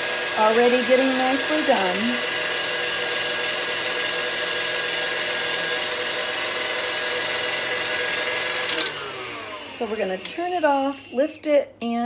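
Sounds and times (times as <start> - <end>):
stand mixer motor whine: 0.0 - 11.4
whisk whirring in bowl: 0.0 - 11.5.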